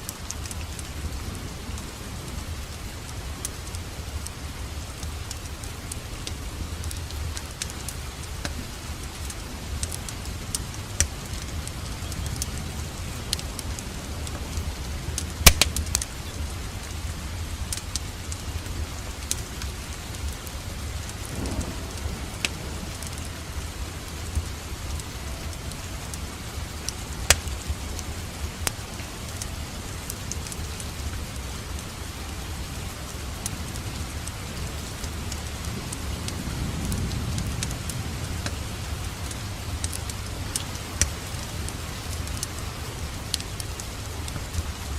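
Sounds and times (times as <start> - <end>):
rain hissing: 0.0 - 44.9
wood fire crackling and popping: 0.0 - 44.9.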